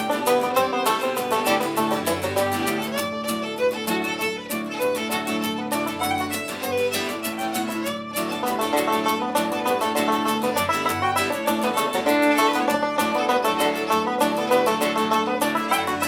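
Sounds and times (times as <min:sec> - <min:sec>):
folk reel on tenor banjo: 0:00.0 - 0:16.0.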